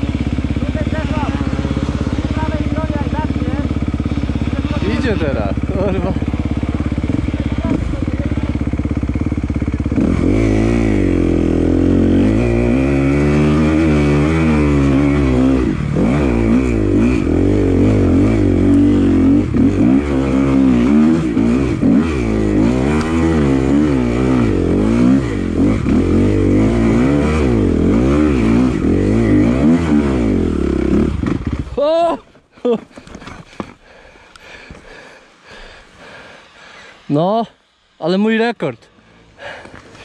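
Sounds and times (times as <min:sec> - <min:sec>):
dirt bike engine revving: 0:00.0 - 0:32.2.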